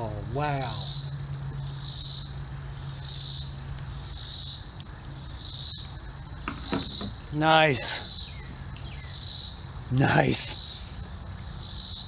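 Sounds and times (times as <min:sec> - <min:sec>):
high insect drone: 0:00.0 - 0:12.0
pulsing insect chorus: 0:00.0 - 0:12.0.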